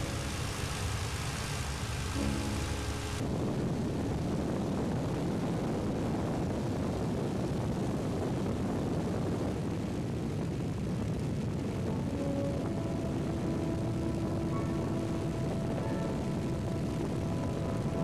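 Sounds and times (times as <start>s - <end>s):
propeller plane engine drone: 0.0s - 18.0s.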